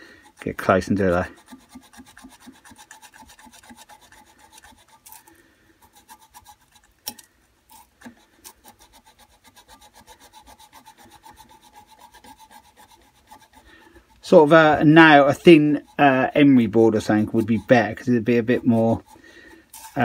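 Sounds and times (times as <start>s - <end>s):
sandpaper rasping on metal: 0.0s - 20.0s.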